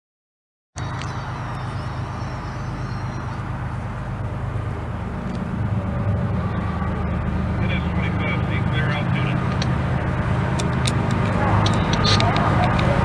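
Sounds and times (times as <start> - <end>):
diesel train rumble: 0.8 - 13.0.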